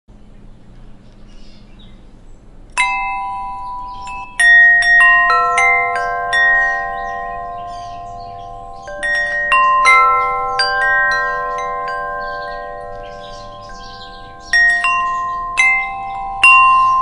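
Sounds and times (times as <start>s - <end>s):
wind chimes ringing: 2.7s - 17.0s.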